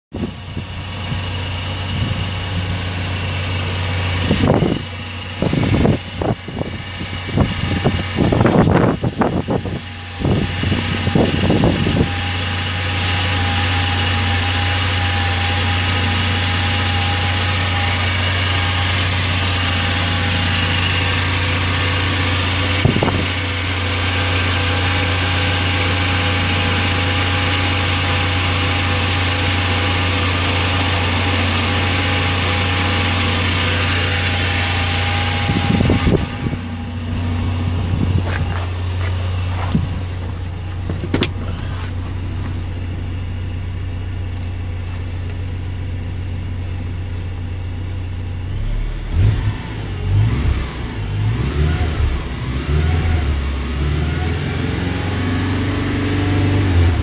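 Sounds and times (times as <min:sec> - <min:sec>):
car engine idling: 0:00.1 - 0:57.0.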